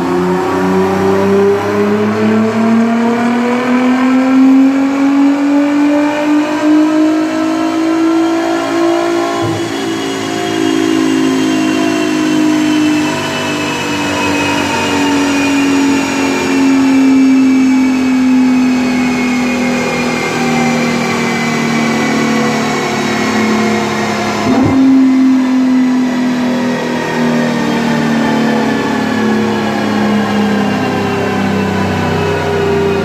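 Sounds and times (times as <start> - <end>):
car engine running down on dyno: 0.0 - 33.0.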